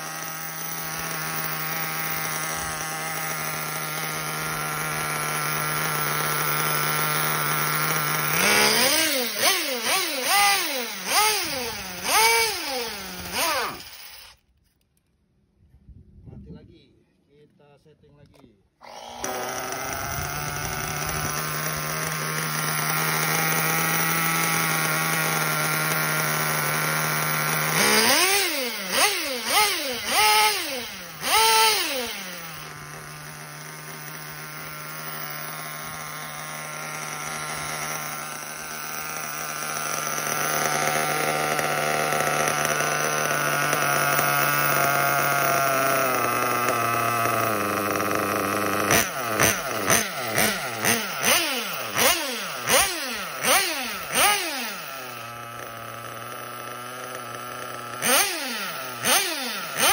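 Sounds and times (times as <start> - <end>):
model engine idling and revving: 0.0 - 14.4, 18.8 - 59.9.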